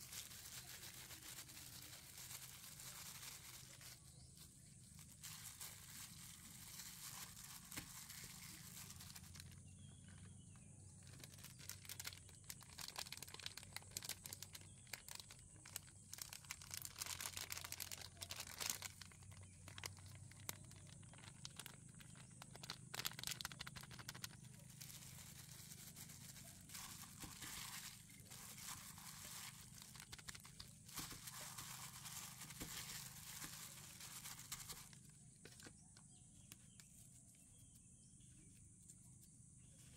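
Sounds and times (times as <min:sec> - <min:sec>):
plastic gloves crinkling: 0:00.0 - 0:35.8.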